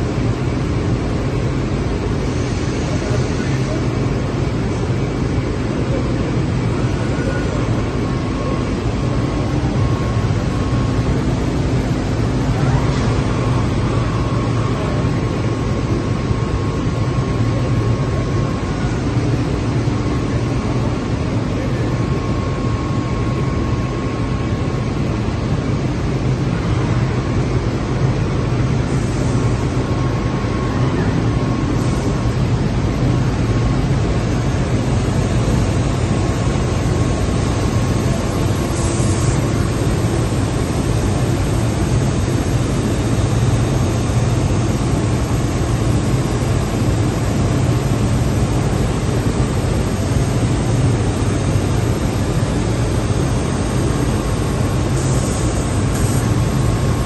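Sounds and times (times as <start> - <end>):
faint machine whine: 0.0 - 57.0
machining centre humming: 0.0 - 57.0.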